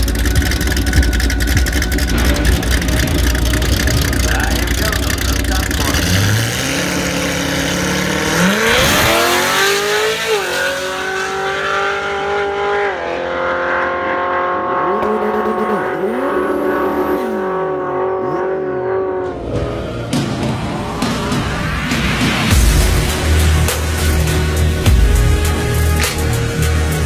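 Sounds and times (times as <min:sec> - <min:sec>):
car engine accelerating hard: 0:00.0 - 0:27.0.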